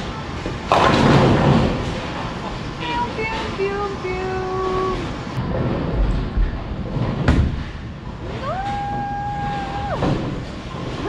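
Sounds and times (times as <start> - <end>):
deep bowling rumble: 0.4 - 3.6, 4.4 - 11.0.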